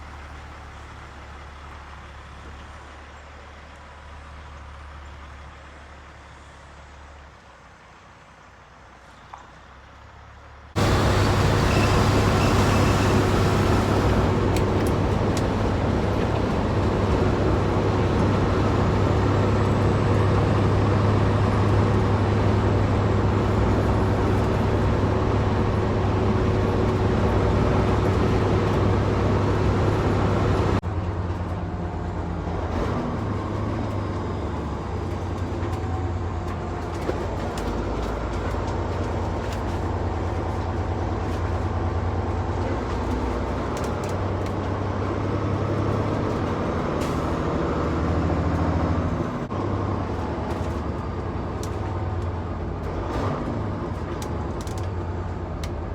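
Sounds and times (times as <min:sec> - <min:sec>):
road noise: 0:00.0 - 0:55.9
vehicle engine hum: 0:00.0 - 0:55.9.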